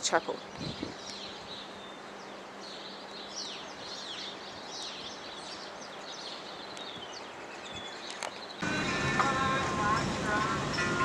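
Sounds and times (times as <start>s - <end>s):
birds chirping: 0.0s - 11.0s
steady background hiss: 0.0s - 11.0s.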